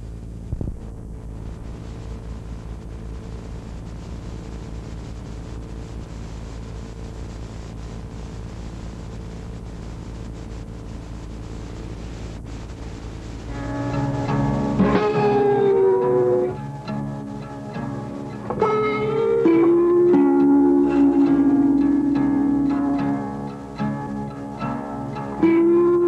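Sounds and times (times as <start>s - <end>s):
electrical hum and hiss: 0.0s - 26.0s.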